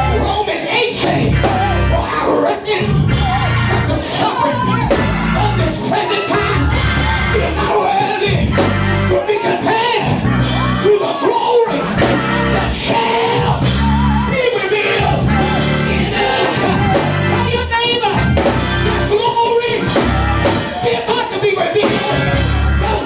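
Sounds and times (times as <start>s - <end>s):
church band gospel music: 0.0s - 23.0s
voices singing: 0.0s - 23.0s.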